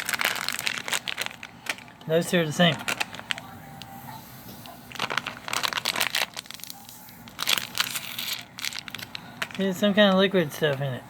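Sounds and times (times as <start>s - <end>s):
plastic pouch crinkling: 0.0s - 4.0s, 4.6s - 10.9s.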